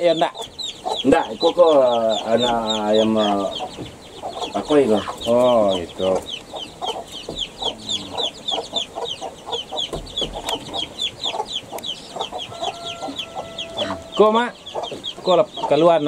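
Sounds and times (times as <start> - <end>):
chicks peeping: 0.0 - 16.0
low clucking: 0.0 - 16.0.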